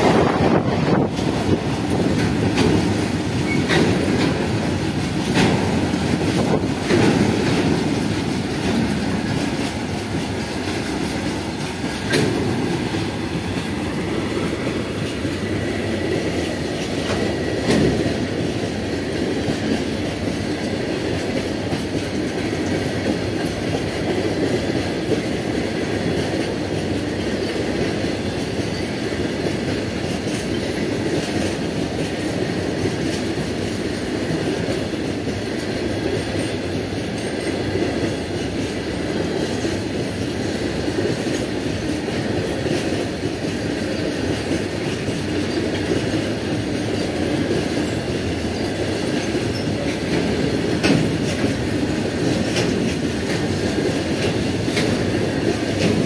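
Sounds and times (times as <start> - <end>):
wheels clattering over rail joints: 0.0 - 25.4, 26.0 - 56.0
freight train wheels rumbling: 0.0 - 56.0.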